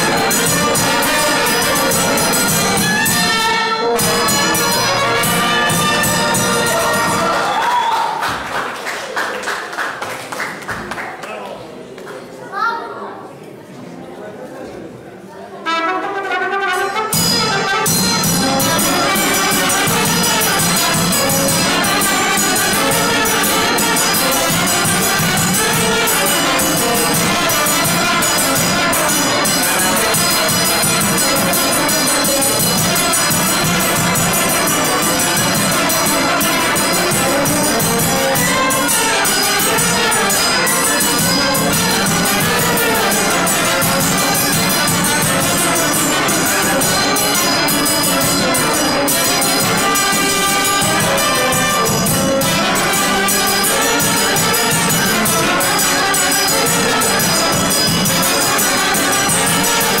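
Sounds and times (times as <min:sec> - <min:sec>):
brass band playing folk dance music: 0:00.0 - 0:08.6, 0:15.5 - 1:00.0.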